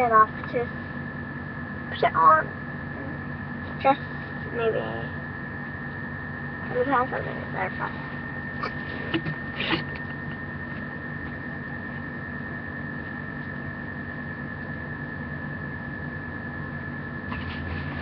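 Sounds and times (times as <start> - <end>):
high whine: 0.0 - 18.0
room hum: 0.0 - 18.0.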